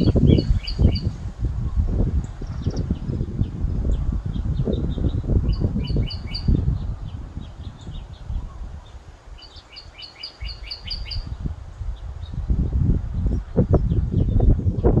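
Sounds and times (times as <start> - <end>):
songbird chirping: 0.0 - 12.6.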